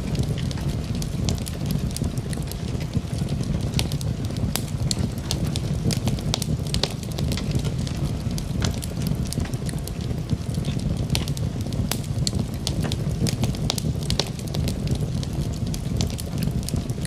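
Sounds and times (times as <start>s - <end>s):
burning logs crackling and popping: 0.0s - 17.0s
fireplace flames rumbling: 0.0s - 17.0s.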